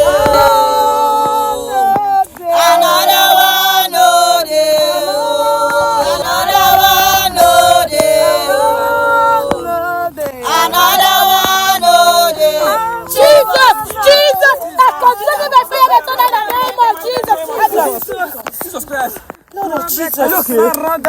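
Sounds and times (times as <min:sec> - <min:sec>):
voices singing a worship chant: 0:00.0 - 0:18.6.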